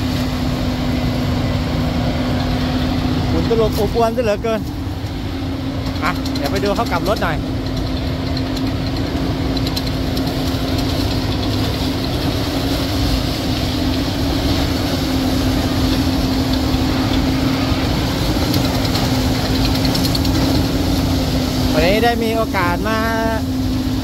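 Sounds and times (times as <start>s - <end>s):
harvester diesel drone: 0.0s - 24.0s
tractor engine running: 0.0s - 24.0s.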